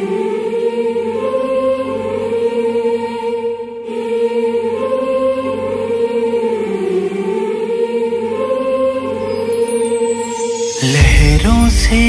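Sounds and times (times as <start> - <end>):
music with long held notes: 0.0 - 12.0.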